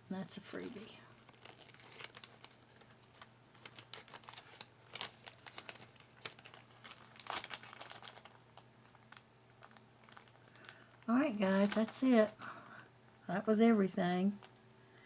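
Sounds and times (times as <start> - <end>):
crinkling and rustling: 0.2 - 12.6, 14.4 - 14.7.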